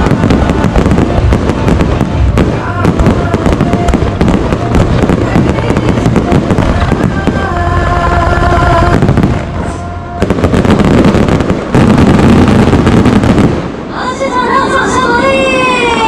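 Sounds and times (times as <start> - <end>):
firework bangs and crackling: 0.0 - 16.0.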